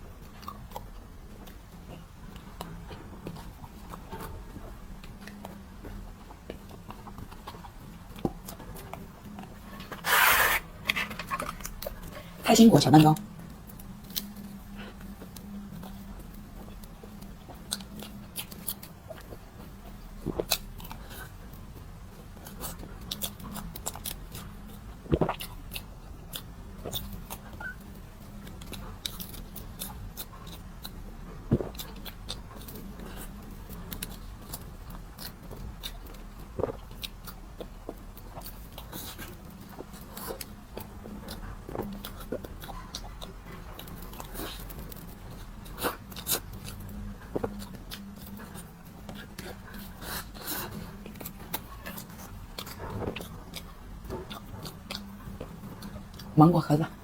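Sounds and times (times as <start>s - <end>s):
steady low hum: 0.0s - 57.0s
chewing and mouth sounds: 0.1s - 12.4s, 13.0s - 57.0s.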